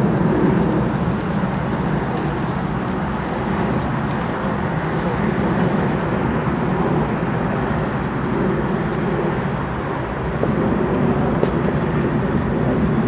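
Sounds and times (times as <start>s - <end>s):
diesel locomotive engines droning: 0.0s - 13.0s.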